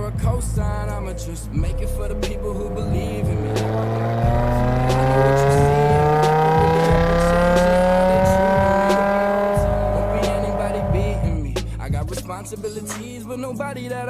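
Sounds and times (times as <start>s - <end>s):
car engine accelerating hard: 0.2s - 11.5s.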